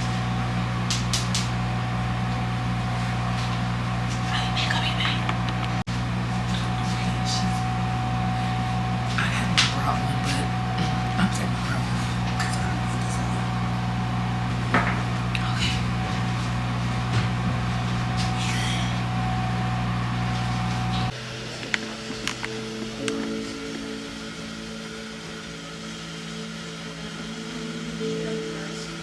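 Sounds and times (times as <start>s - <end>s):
electrical machine hum: 0.0s - 29.0s
thin high whine: 0.0s - 29.0s.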